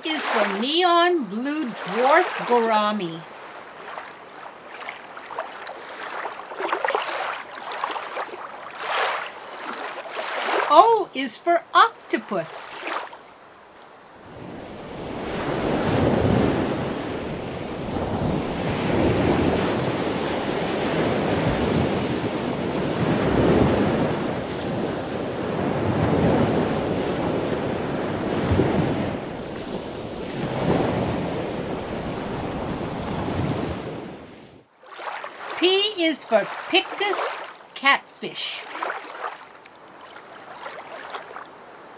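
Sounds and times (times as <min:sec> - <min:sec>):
ocean waves washing: 0:00.0 - 0:41.9.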